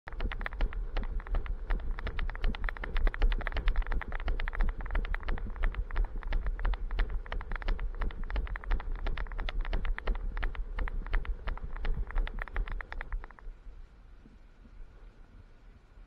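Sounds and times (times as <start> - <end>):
steady low rumble: 0.1 - 16.0.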